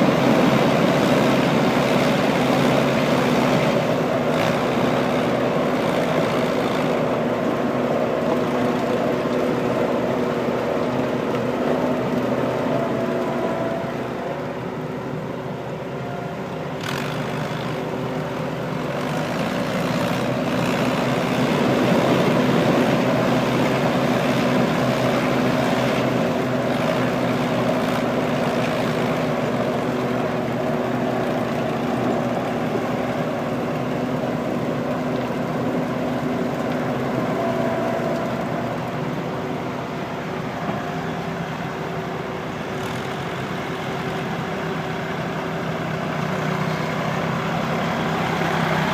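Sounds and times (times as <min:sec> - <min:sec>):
machinery engine drone: 0:00.0 - 0:48.9.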